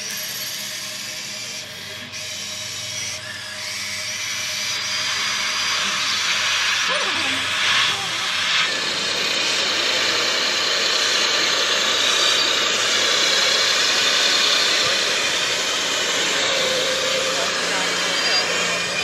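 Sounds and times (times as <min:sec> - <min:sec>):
small electric motors whirring: 0:00.0 - 0:19.0.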